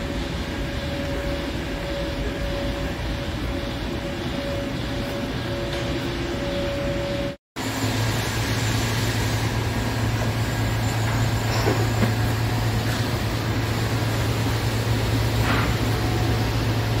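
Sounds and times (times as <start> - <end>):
industrial machinery drone: 0.0 - 17.0.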